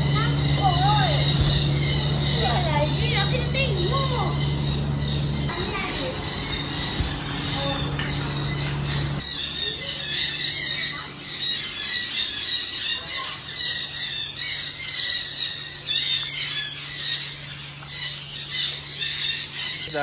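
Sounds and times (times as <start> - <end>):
high-pitched animal calls: 0.0 - 20.0
low steady hum: 0.0 - 20.0.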